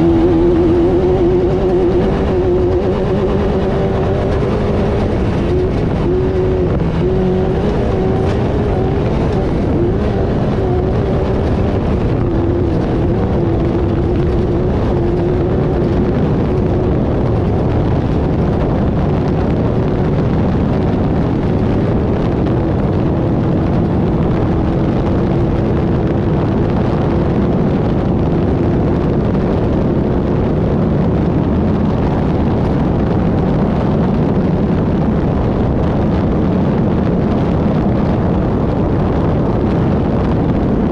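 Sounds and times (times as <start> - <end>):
race car engine: 0.0 - 40.9
rumble of driving noise: 0.0 - 40.9.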